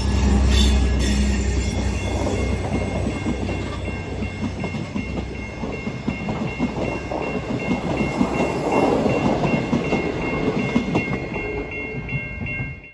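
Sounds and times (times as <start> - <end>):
pulsing high ringing tone: 0.0 - 12.9
train wheels rumbling and clicking: 0.0 - 12.9.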